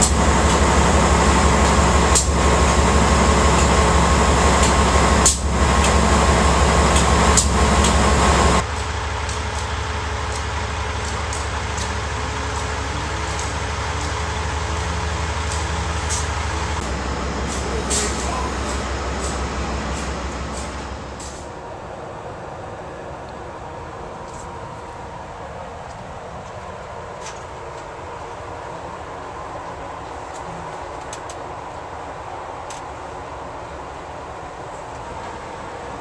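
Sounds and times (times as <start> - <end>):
idling train hum: 0.0 - 36.0.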